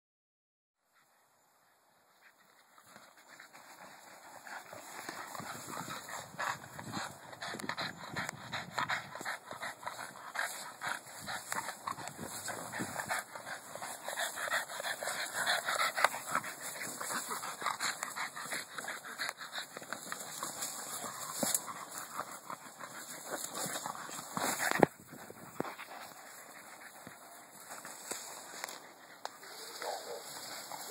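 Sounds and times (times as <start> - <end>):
dogs making excited noises: 2.4 - 30.9.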